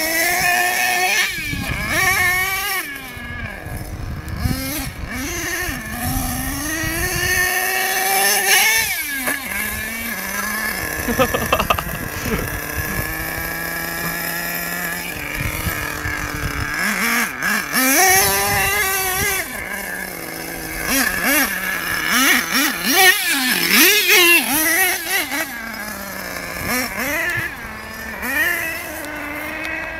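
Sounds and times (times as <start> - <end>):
small nitro engine revving: 0.0 - 29.9.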